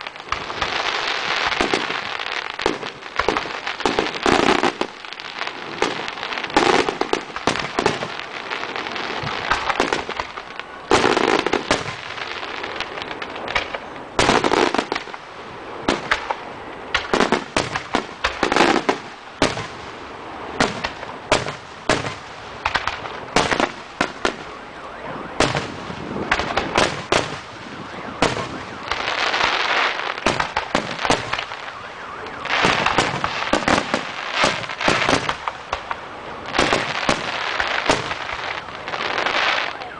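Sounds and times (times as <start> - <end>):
fireworks bursting with bangs: 0.0 - 24.7, 25.3 - 39.9
fireworks crackling: 0.0 - 39.9.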